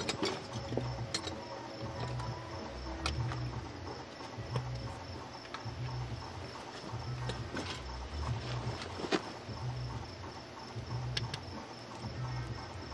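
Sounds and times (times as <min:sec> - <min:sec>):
crickets chirping: 0:00.0 - 0:12.9
low throb: 0:01.8 - 0:12.9.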